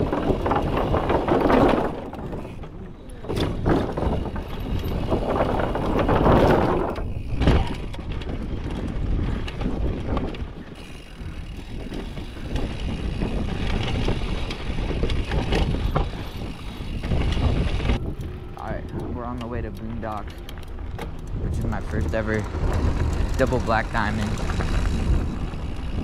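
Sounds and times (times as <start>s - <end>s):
bike rattling over rocky trail: 0.0s - 26.0s
bike tyres rumbling over wooden slats: 0.0s - 26.0s.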